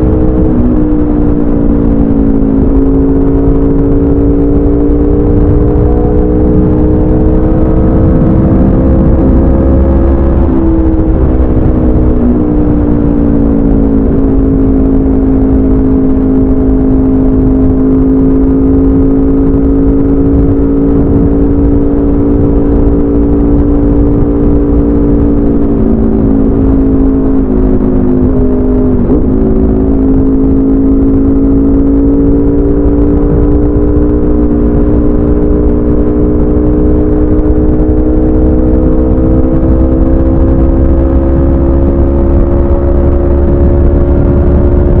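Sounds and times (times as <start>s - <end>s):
loud motorcycle engine cruising: 0.0s - 45.0s.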